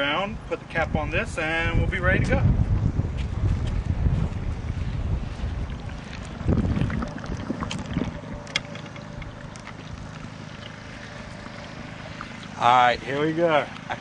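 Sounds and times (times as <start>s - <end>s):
wind buffeting microphone: 0.2s - 14.0s.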